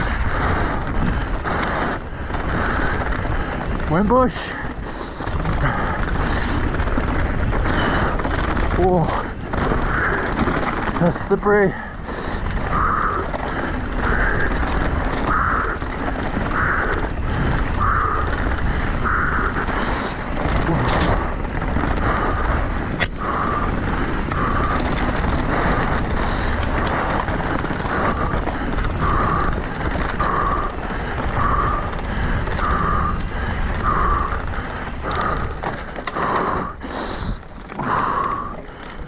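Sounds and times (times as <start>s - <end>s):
wind on microphone: 0.0s - 11.0s, 11.7s - 39.0s
bike tyre and drivetrain rattle: 0.0s - 39.0s.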